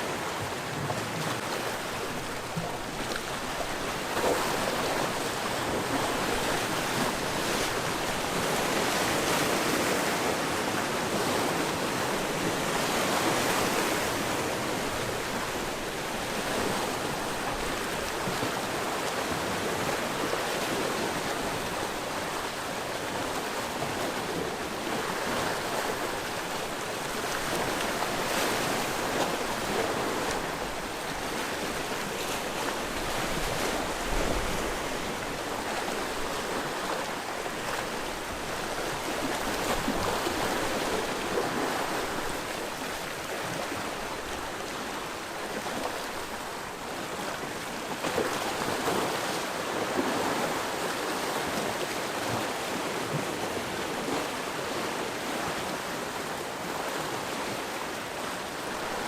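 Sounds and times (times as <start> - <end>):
sea waves on the coast: 0.0 - 59.0.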